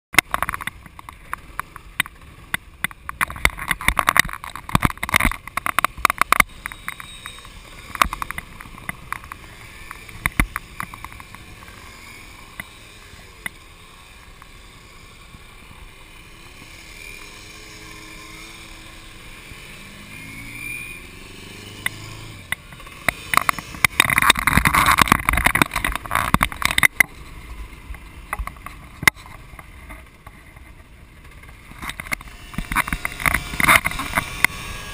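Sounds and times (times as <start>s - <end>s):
faint scooter engine: 0.2s - 34.9s.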